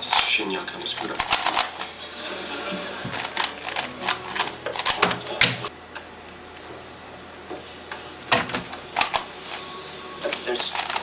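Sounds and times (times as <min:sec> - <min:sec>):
puzzle cube layers clacking: 0:00.0 - 0:06.7, 0:08.2 - 0:11.0.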